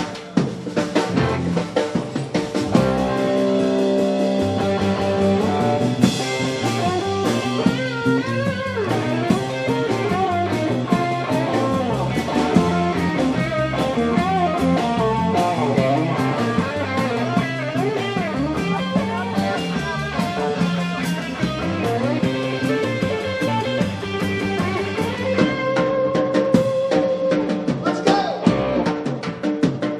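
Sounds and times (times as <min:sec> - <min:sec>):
drum kit beat: 0:00.0 - 0:29.9
electric guitars: 0:00.0 - 0:29.9.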